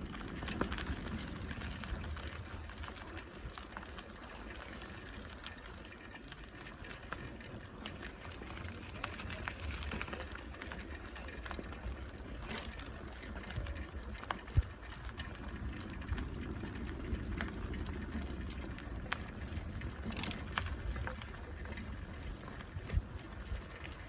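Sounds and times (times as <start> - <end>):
bicycle tyres rumbling on dirt: 0.0 - 24.0
bike clicks and rattles: 0.0 - 24.0.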